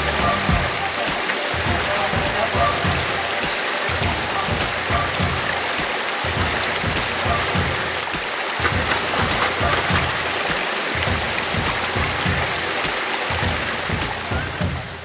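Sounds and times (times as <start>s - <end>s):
background music beat: 0.0s - 15.0s
stream water rushing: 0.0s - 15.0s.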